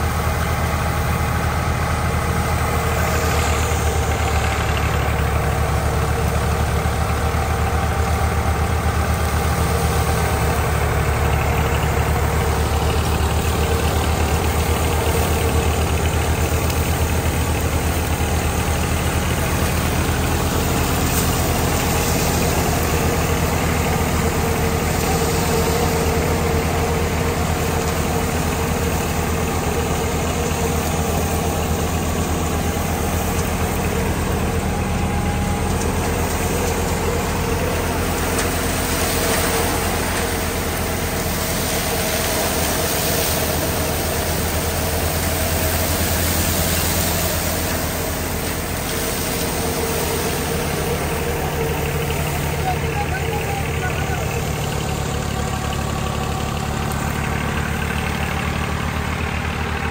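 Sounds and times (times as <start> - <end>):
diesel tractor engine running: 0.0 - 59.9
thresher drum humming: 0.0 - 59.9.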